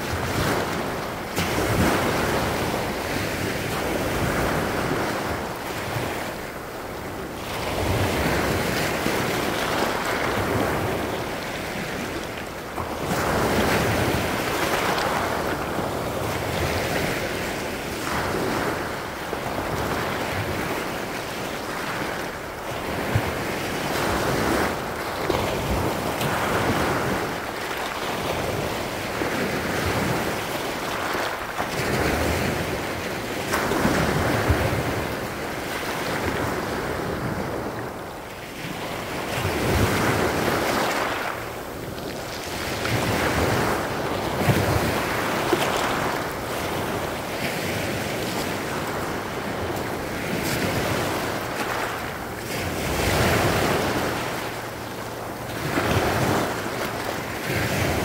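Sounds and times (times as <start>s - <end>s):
waves washing over pebbles: 0.0s - 58.0s.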